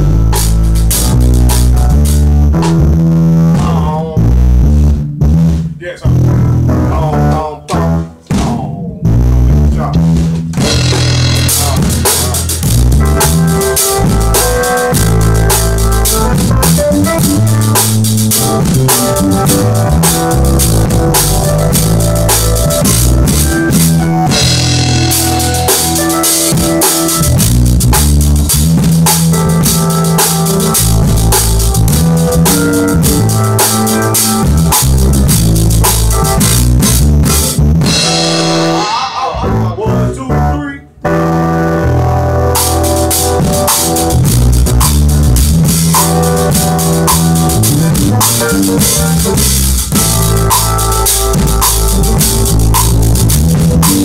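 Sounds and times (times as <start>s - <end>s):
drum kit groove: 0.0s - 40.5s, 42.4s - 54.0s
bass line: 0.0s - 54.0s.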